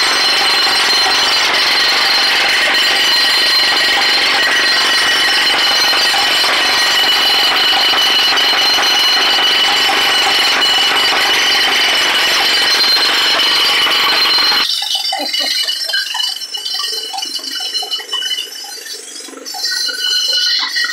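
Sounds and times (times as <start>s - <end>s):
jackhammer breaking concrete: 0.0s - 16.8s.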